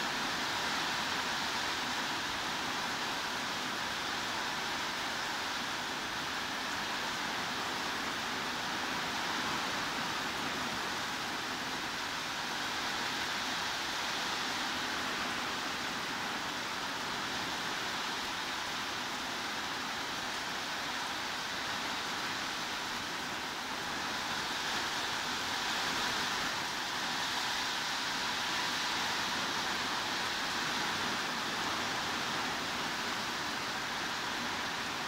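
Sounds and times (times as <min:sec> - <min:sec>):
heavy rain hiss: 0:00.0 - 0:35.0.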